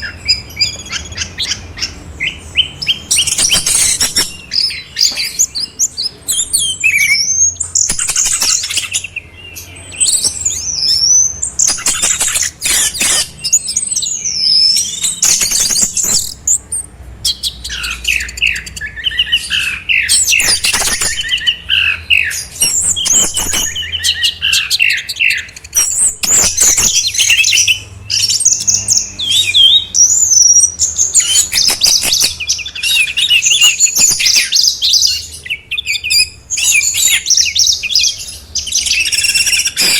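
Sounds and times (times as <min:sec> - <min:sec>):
sharp chattering bird notes: 0:00.0 - 0:39.9
songbird song: 0:00.0 - 0:39.9.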